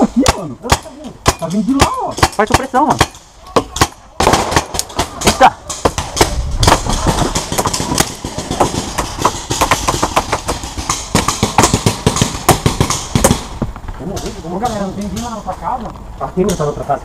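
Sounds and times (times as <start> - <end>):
paintball markers firing: 0.2 - 15.6.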